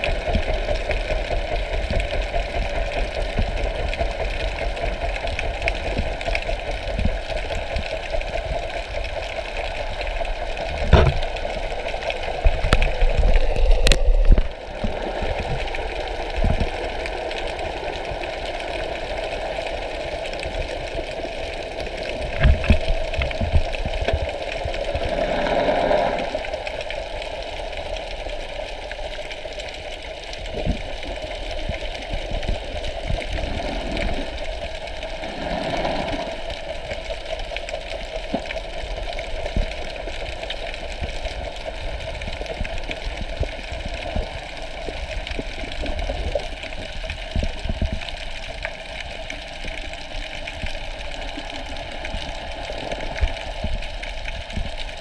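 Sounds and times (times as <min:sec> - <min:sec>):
underwater hum and rumble: 0:00.0 - 0:55.0.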